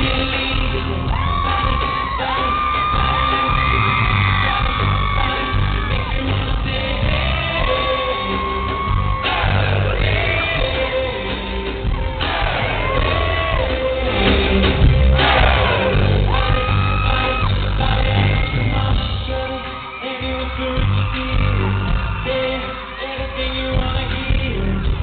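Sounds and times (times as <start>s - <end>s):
band with heavy bass beat: 0.0s - 25.0s
crowd yelling and screaming: 0.0s - 25.0s
man singing: 0.0s - 25.0s.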